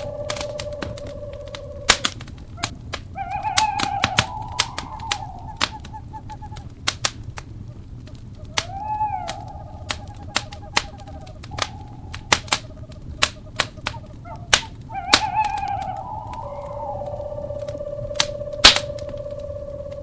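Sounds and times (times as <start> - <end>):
owl hooting: 0.0 - 20.0
wood fire crackling and popping: 0.0 - 20.0.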